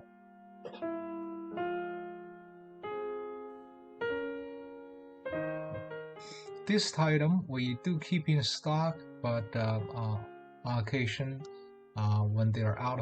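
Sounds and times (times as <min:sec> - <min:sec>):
slow electric piano chords: 0:00.0 - 0:13.0.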